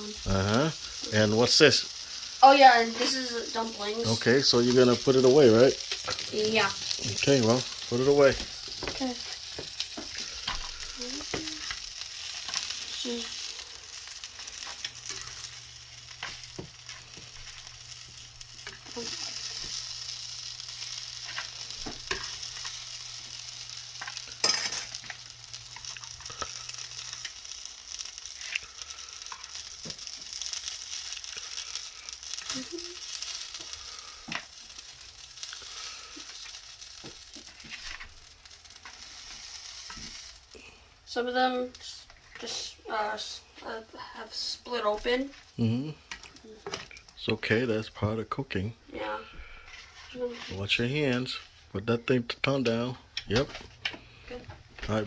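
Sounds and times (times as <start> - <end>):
dumplings sizzling in oil: 0.0 - 55.0.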